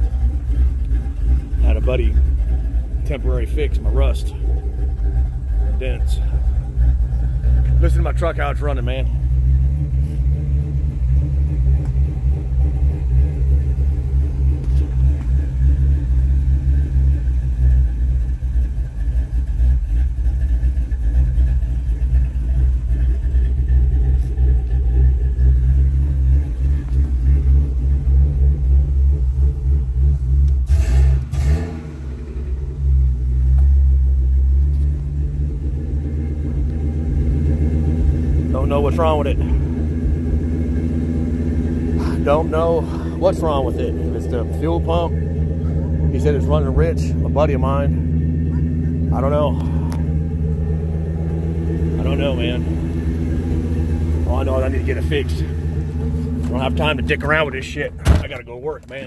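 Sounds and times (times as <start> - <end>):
truck engine idling roughly: 0.0 - 31.2, 32.2 - 59.0.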